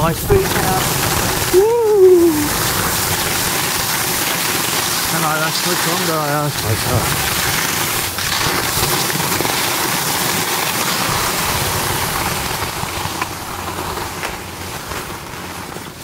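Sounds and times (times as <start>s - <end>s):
skis sliding over snow: 0.0s - 16.0s.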